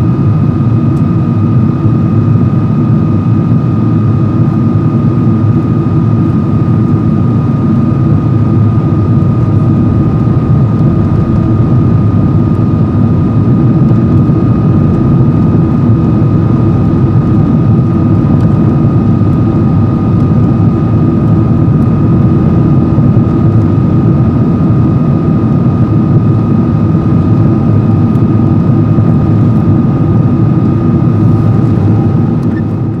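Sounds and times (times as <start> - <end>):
jet engine and airflow rumble: 0.0 - 33.0
steady high whine: 0.0 - 33.0.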